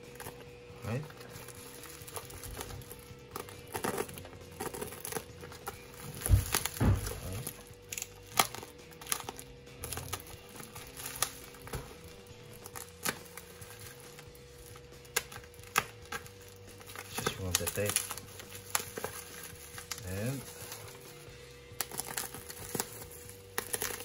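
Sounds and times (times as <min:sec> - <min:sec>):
plastic wrap crinkling: 0:00.1 - 0:24.0.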